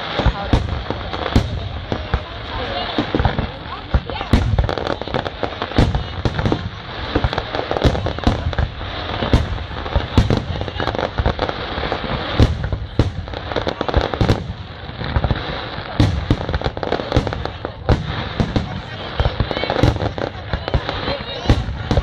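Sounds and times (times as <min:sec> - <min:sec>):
continuous crackling: 0:00.0 - 0:22.0
fireworks bangs: 0:00.0 - 0:22.0.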